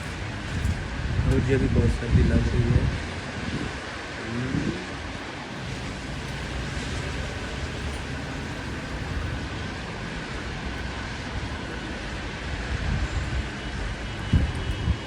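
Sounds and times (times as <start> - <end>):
heavy rain: 0.0 - 15.0
wind buffeting microphone: 0.0 - 15.0.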